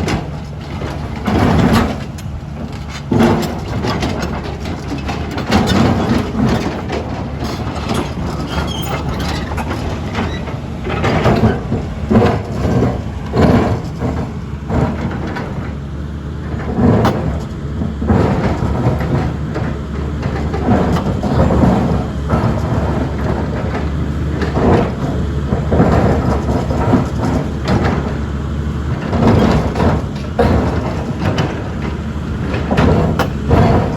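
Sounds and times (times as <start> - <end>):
excavator diesel engine rumbling: 0.0 - 33.9.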